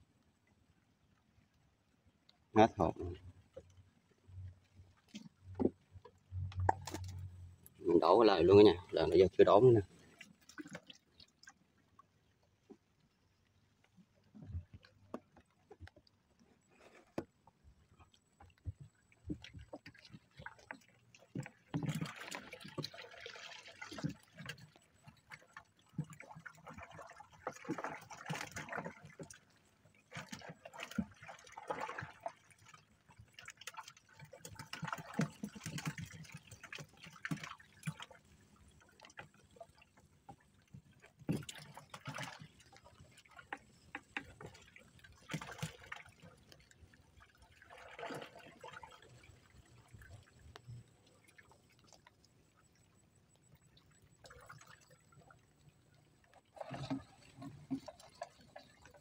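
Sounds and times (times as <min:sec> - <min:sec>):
water splashing and dripping: 0:04.4 - 0:16.4, 0:17.2 - 0:59.0.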